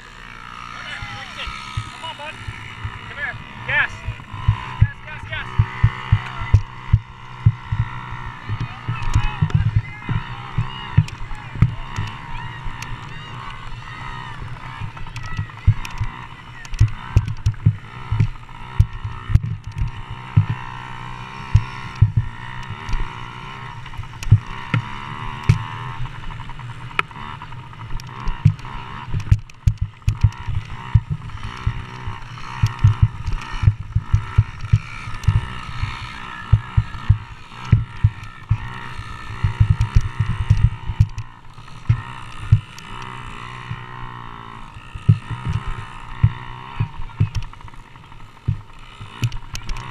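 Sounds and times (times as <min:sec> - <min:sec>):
motocross bike engines racing: 0:00.0 - 0:49.9.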